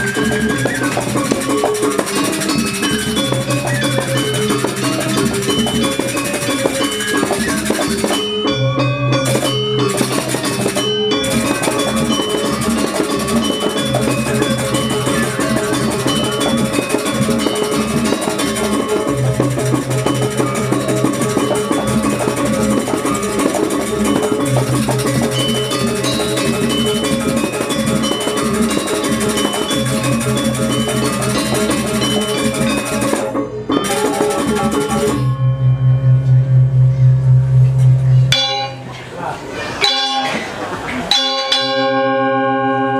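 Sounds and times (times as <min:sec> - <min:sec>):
gamelan metallophone music: 0:00.0 - 0:39.0, 0:39.7 - 0:42.9.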